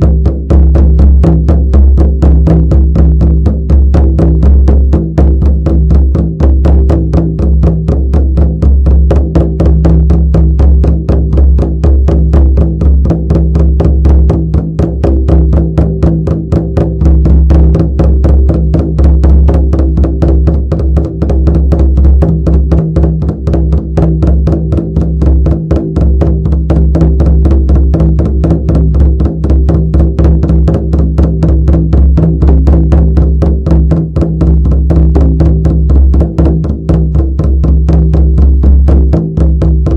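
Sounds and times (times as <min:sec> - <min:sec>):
deep drum beating: 0:00.0 - 0:39.9.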